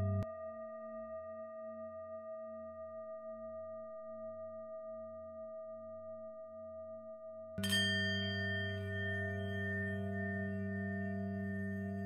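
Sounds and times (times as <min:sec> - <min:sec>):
singing bowl humming: 0:00.0 - 0:12.0.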